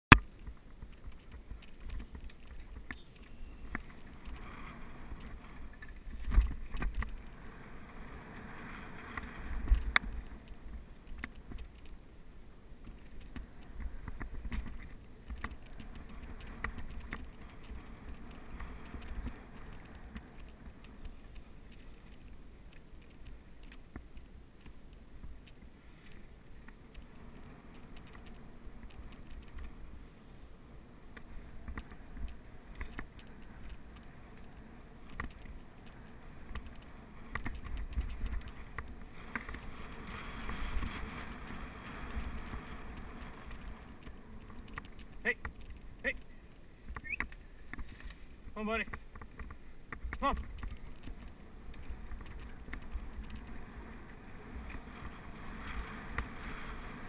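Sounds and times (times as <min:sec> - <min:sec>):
small clicks and rattles: 0:00.1 - 0:07.6, 0:09.1 - 0:12.0, 0:12.8 - 0:29.8, 0:31.2 - 0:48.2, 0:48.8 - 0:53.7, 0:54.6 - 0:56.8
wind and jostling rumble: 0:00.1 - 0:57.0.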